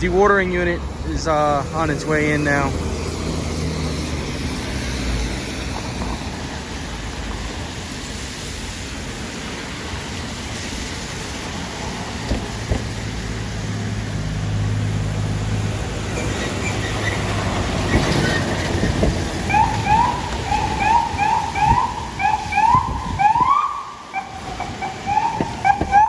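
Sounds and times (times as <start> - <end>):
fire truck engine hum: 0.0 - 26.0
street traffic: 0.0 - 26.0.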